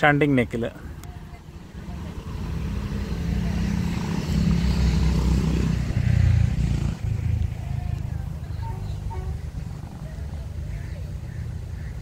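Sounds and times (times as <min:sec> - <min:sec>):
train locomotive hum: 0:00.8 - 0:10.9.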